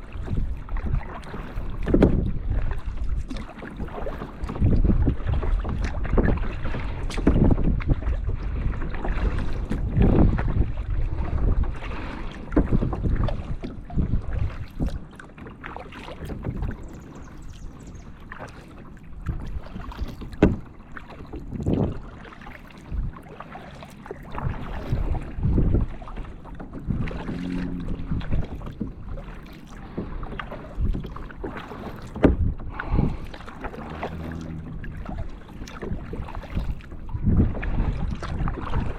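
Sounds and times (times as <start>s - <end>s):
paddle splashing in water: 0.0s - 38.9s
wind buffeting microphone: 0.0s - 38.9s.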